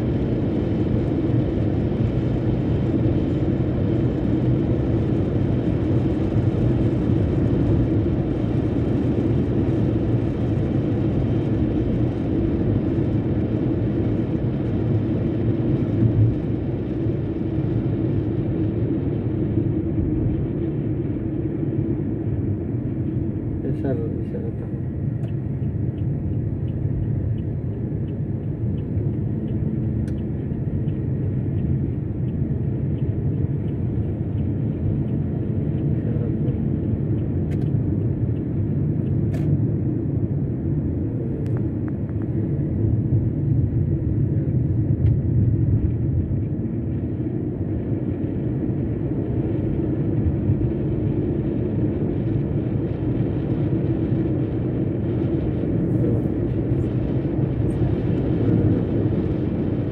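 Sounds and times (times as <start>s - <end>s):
vehicle road and engine rumble: 0.0s - 59.9s.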